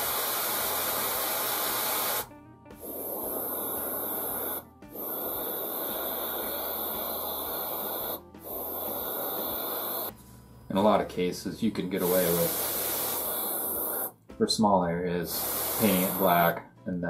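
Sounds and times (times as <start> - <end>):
airbrush spraying hiss: 0.0 - 10.1, 11.9 - 14.2, 15.2 - 16.6.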